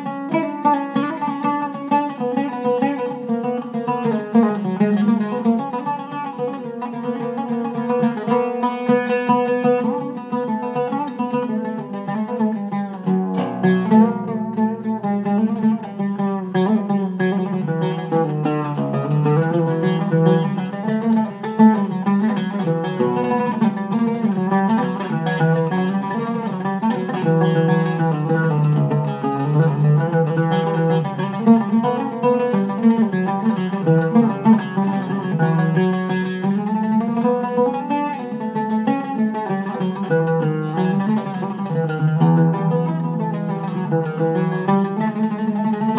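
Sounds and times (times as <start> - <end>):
low oud string droning: 0.0 - 45.9
oud melody plucked: 0.0 - 45.9.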